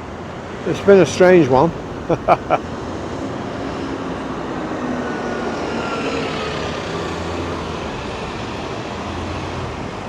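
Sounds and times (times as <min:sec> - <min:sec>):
airliner flying overhead: 0:00.0 - 0:10.0.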